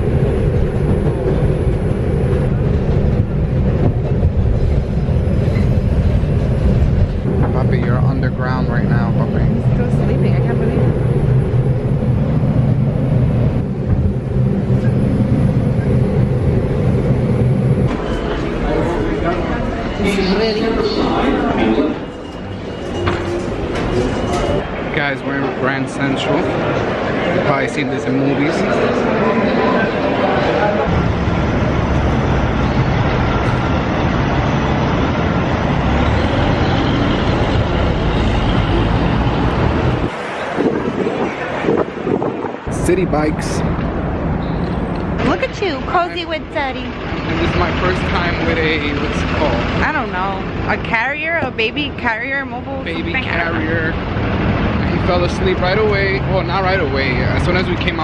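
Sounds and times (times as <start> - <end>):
city street traffic: 0.0 - 58.0
passenger train rumbling: 0.0 - 58.0.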